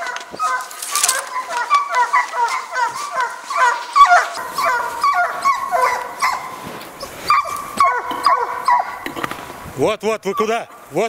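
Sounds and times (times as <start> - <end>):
hound pack baying: 0.0 - 9.4, 10.2 - 10.8.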